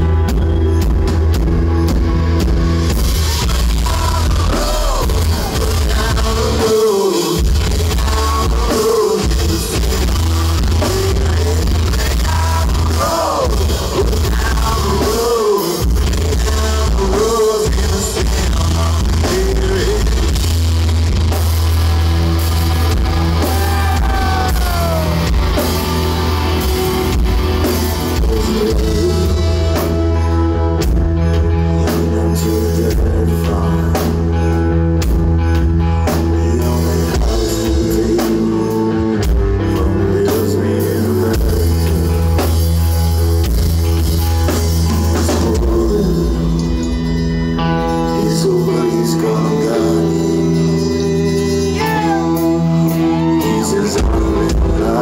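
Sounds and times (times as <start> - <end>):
person singing: 0.0 - 35.2, 35.8 - 43.1, 44.6 - 55.0
drum kit: 0.0 - 55.0
electric bass: 0.0 - 55.0
electric guitar: 0.0 - 55.0.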